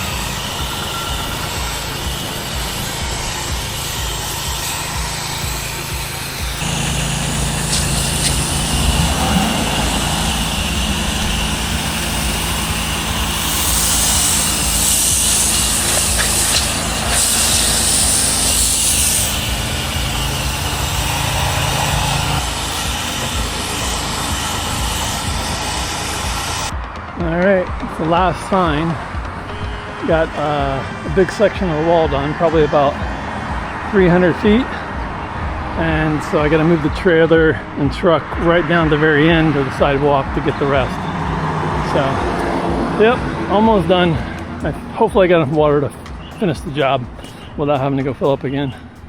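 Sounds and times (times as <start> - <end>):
water spray hissing: 0.0 - 26.8, 28.0 - 36.9, 38.9 - 48.9
pressure washer engine running: 0.0 - 49.0.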